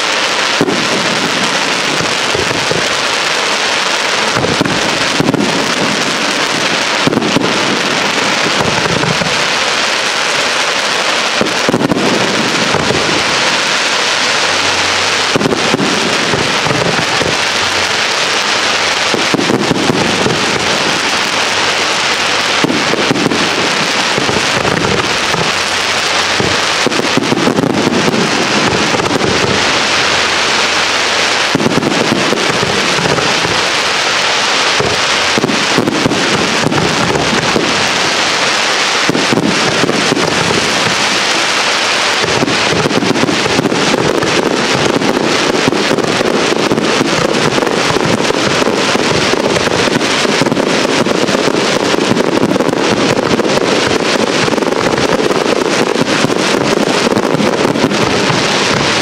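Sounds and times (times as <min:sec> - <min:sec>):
fireworks crackling: 0:00.0 - 0:59.0
fireworks launching and bursting: 0:00.0 - 0:59.0.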